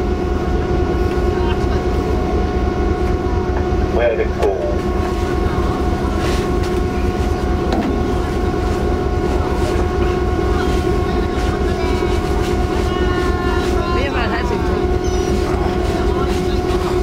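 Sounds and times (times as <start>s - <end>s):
machinery humming tones: 0.0s - 17.0s
ship engines low rumble: 0.0s - 17.0s.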